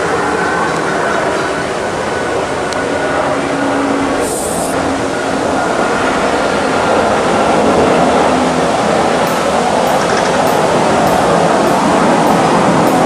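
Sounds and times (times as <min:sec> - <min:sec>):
jet airliner roaring overhead: 0:00.0 - 0:13.0.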